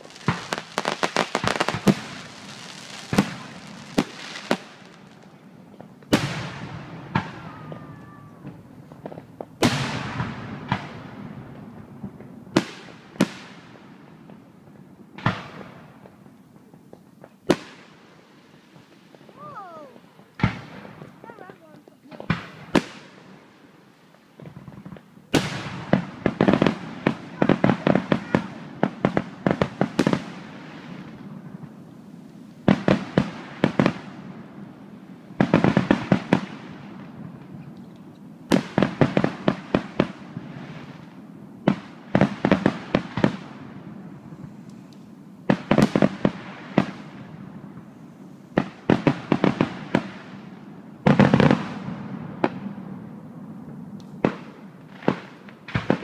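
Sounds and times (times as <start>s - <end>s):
fireworks bangs and cracks: 0.0s - 56.0s.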